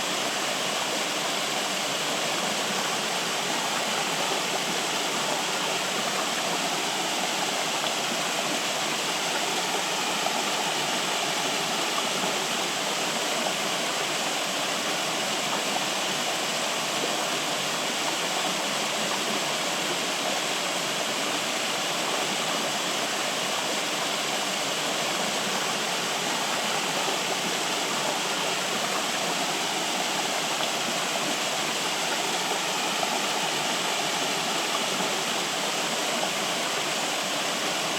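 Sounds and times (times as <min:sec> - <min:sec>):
water rushing: 0:00.0 - 0:37.9.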